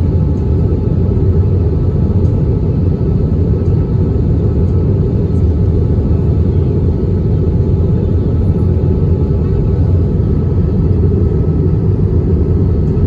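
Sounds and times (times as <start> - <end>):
low cabin rumble: 0.0 - 13.0.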